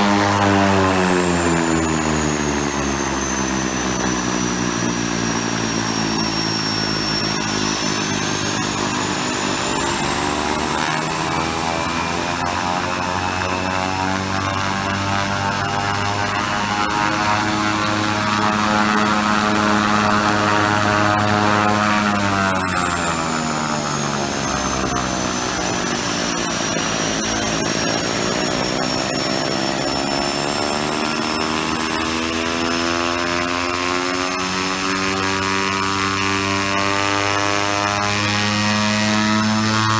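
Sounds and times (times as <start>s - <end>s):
turboprop engines running: 0.0s - 39.9s.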